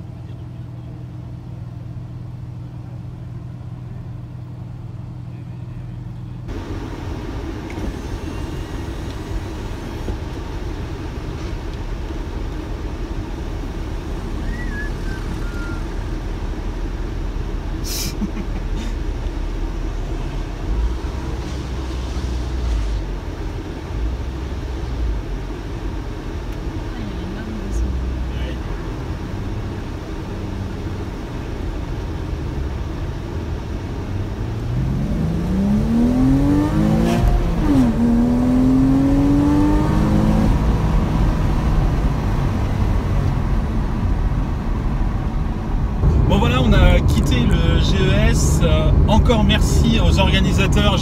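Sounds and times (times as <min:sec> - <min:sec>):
deep engine rumble: 0:00.0 - 0:51.0
engine and road noise: 0:00.0 - 0:51.0
low engine hum: 0:00.0 - 0:51.0.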